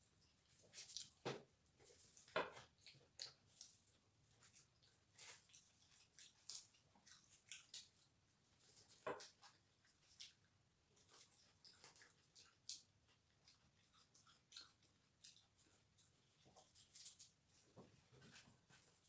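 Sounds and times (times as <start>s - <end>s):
chewing: 0.2s - 1.2s, 1.8s - 19.0s.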